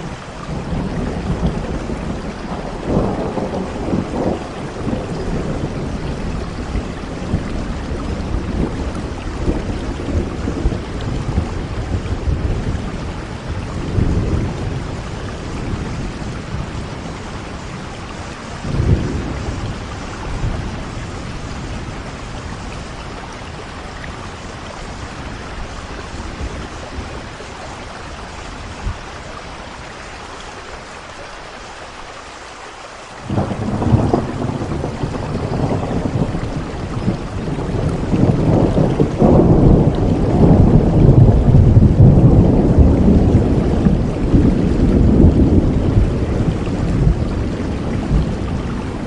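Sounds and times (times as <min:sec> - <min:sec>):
thunder rumbling: 0:00.0 - 0:30.0, 0:33.2 - 0:49.0
heavy rain falling: 0:00.0 - 0:49.0.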